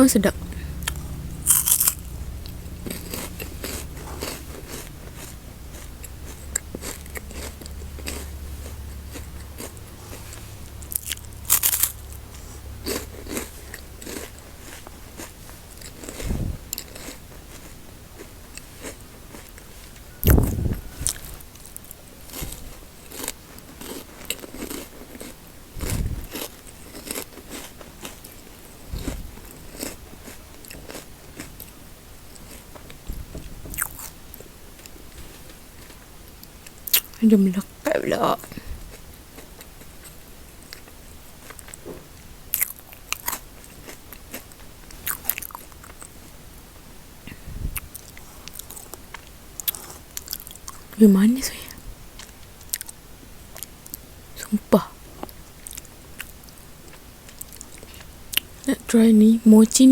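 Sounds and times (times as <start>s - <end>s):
chewing and crunching snack bars: 0.4s - 33.1s, 33.7s - 37.3s, 38.4s - 46.3s, 47.8s - 51.0s, 51.6s - 54.1s, 55.1s - 58.7s.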